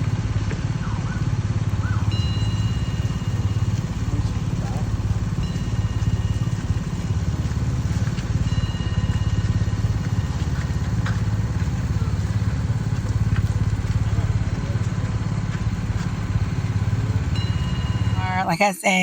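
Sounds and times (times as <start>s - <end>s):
truck engine and road rumble: 0.0s - 18.6s.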